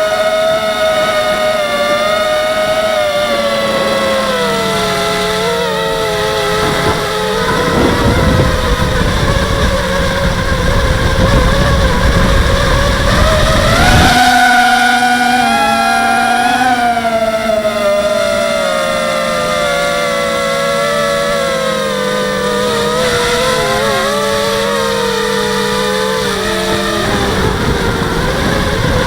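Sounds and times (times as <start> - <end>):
quadcopter propellers whining: 0.0 - 29.0.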